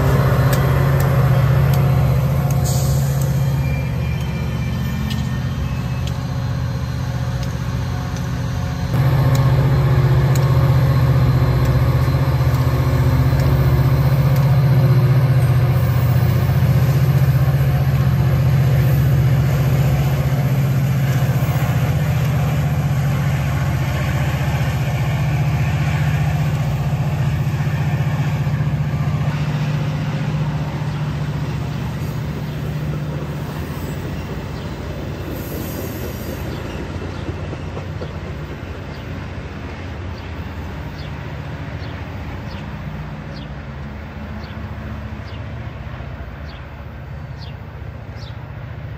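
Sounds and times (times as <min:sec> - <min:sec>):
diesel locomotive engine drone: 0:00.0 - 0:48.9
train cars rolling on rails: 0:00.0 - 0:48.9.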